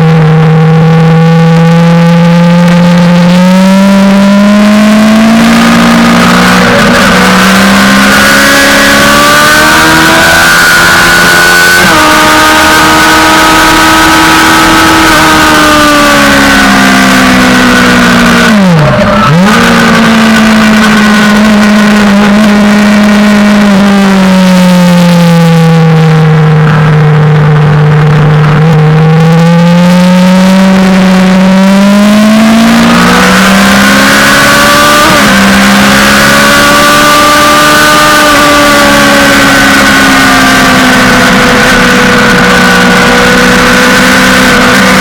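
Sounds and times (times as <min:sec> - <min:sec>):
motorcycle engine running hard: 0:00.0 - 0:45.0.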